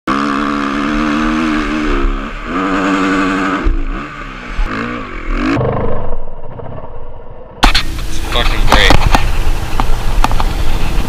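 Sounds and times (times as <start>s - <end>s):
dirt bike engine revving: 0.1s - 11.0s.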